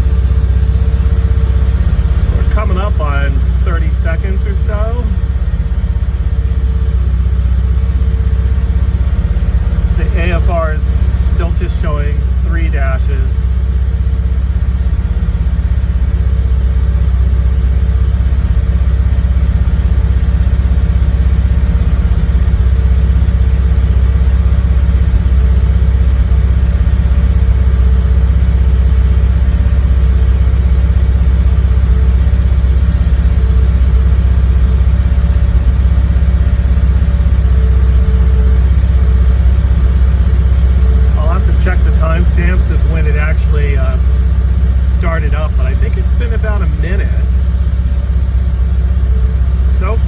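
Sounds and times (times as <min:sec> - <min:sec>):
car engine idling: 0:00.0 - 0:50.0
faint steady tone: 0:00.0 - 0:50.0.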